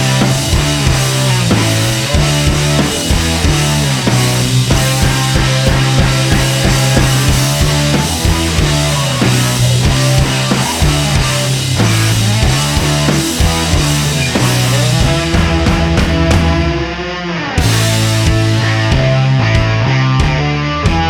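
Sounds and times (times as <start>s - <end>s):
rock music with drums: 0.0s - 21.0s.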